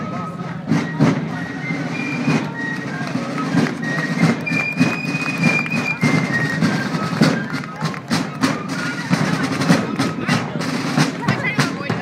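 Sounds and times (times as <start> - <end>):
marching drum beats: 0.0 - 12.0
bagpipes playing a melody: 1.7 - 11.7.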